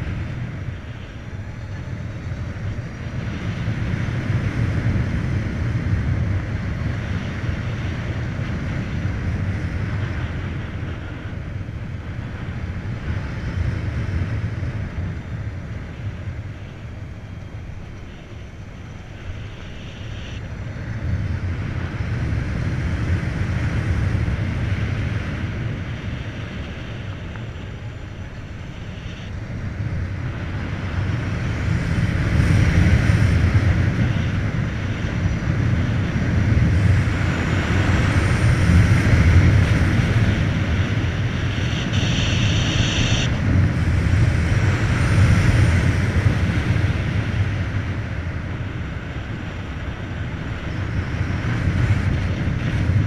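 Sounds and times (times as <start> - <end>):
road and tyre noise: 0.0 - 53.0
wind buffeting microphone: 0.0 - 53.0.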